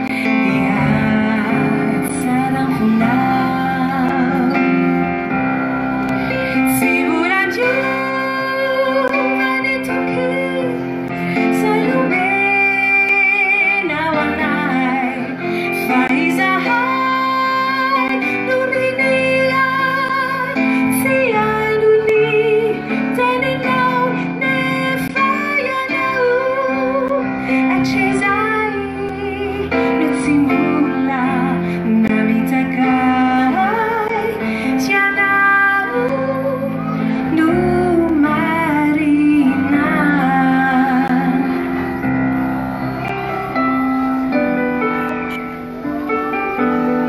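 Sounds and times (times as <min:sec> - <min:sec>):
woman singing into microphone: 0:00.0 - 0:43.7
keyboard: 0:00.0 - 0:47.0.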